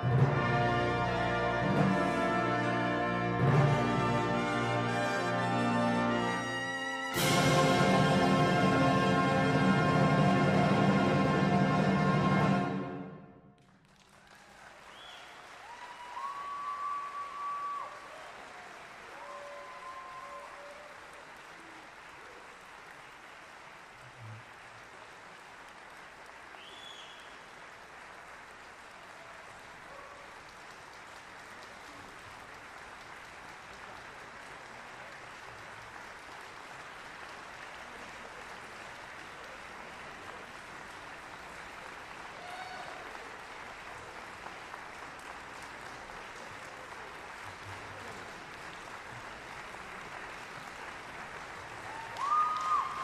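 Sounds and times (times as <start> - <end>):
audience applauding: 0.0 - 12.8, 13.6 - 53.0.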